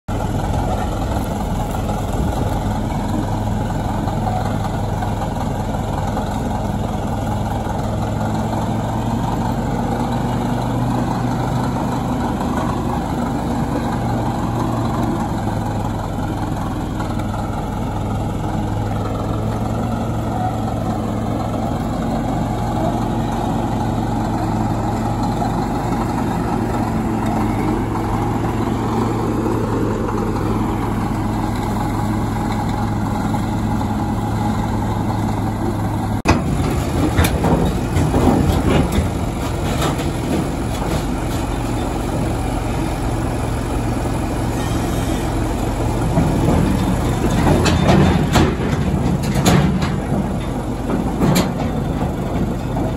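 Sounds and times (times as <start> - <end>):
bulldozer engine running: 0.1 - 52.9
bulldozer tracks moving: 0.1 - 52.9.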